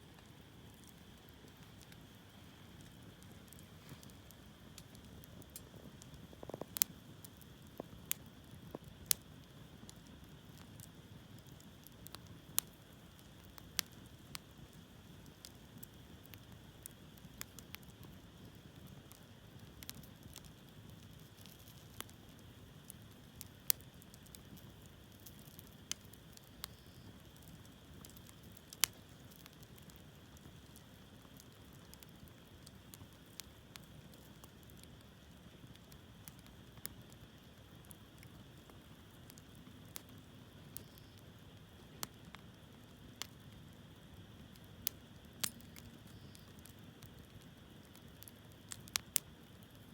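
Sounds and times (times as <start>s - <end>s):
campfire flame rushing: 0.0s - 40.8s
burning logs crackling and popping: 0.0s - 49.9s.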